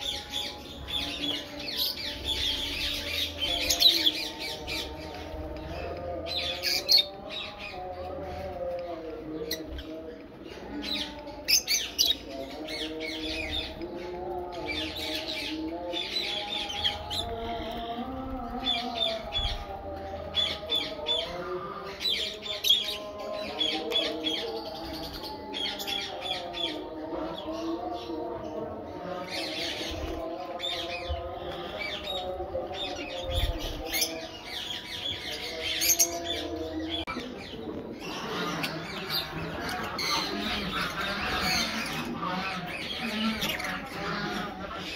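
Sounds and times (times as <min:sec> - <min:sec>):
birds chirping and squawking: 0:00.0 - 0:44.9.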